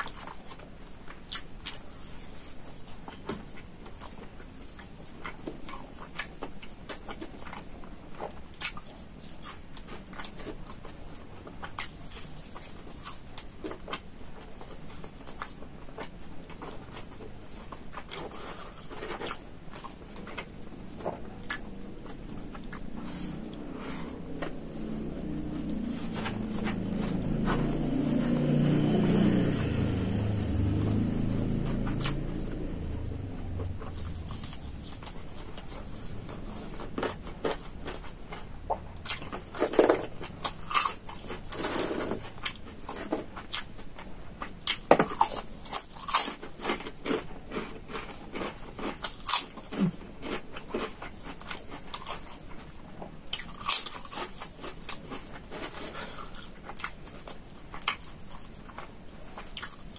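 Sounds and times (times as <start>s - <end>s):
crisp food crunching: 0.0s - 28.6s, 30.8s - 59.9s
heavy low chewing: 0.0s - 59.9s.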